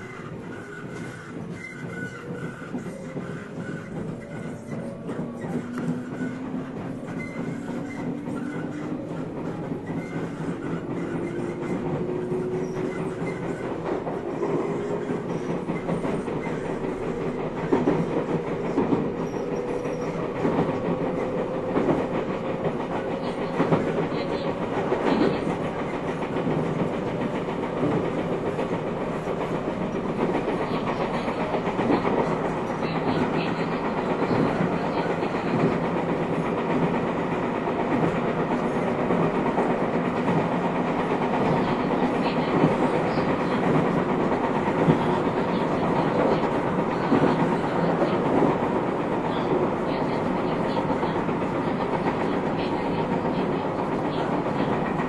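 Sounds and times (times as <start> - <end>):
wheels clacking over rail joints: 0.0 - 55.0.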